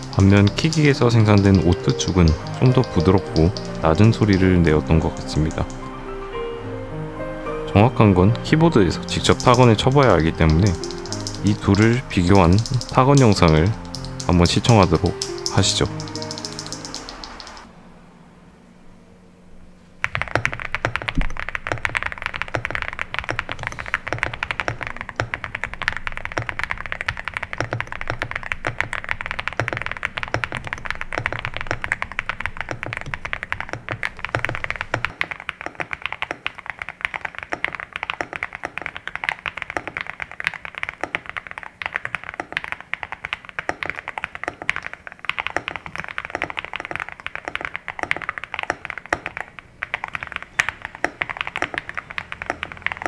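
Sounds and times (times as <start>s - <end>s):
fast typing on mechanical keyboard: 0.0s - 5.8s, 8.8s - 17.7s, 20.0s - 53.0s.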